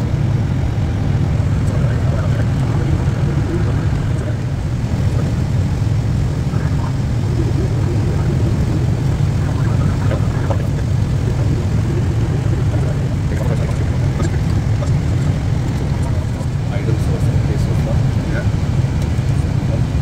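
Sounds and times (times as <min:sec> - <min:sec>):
aircraft cockpit rumble: 0:00.0 - 0:20.0.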